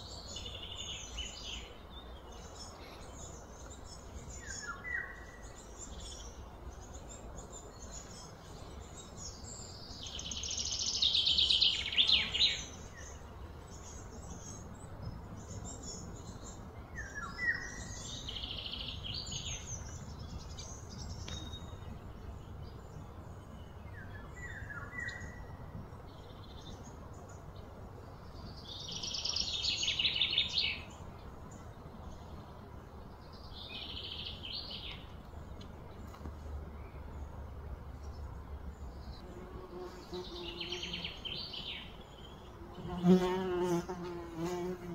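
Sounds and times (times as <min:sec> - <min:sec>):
birds rattling song: 0:00.0 - 0:44.9
low outdoor hum: 0:00.0 - 0:44.9.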